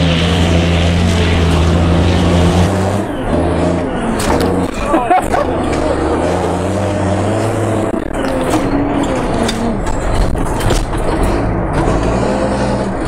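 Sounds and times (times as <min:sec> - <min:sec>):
diesel truck engine running hard: 0:00.0 - 0:13.0
truck knocks and rattles: 0:00.0 - 0:13.0.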